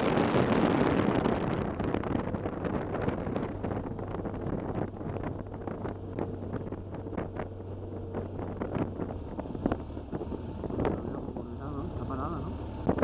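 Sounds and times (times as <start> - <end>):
motorcycle engine drone: 0.0 - 13.0
wind buffeting microphone: 0.0 - 13.0.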